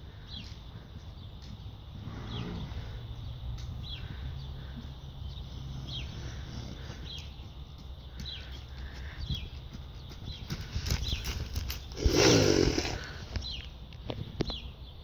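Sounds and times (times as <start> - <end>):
small bird chirping: 0.3 - 15.0.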